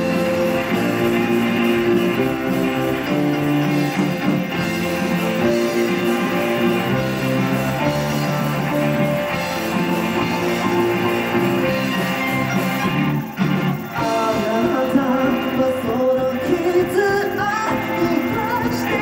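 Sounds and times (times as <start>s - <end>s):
drum kit: 0.0s - 19.0s
electric bass: 0.0s - 19.0s
electric guitar: 0.0s - 19.0s.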